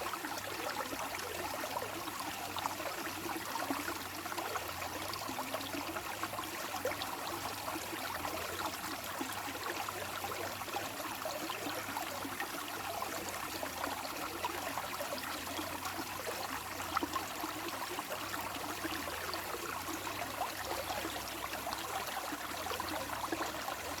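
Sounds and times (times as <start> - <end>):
water flowing: 0.0 - 24.0.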